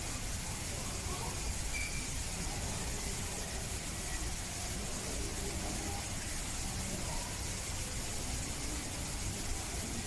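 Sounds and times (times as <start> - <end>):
background hiss: 0.0 - 10.0
faint voices talking: 0.0 - 10.0.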